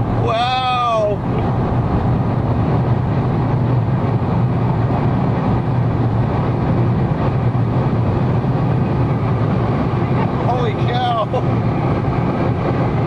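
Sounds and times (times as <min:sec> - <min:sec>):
car engine drone: 0:00.0 - 0:13.0
road and wind noise: 0:00.0 - 0:13.0.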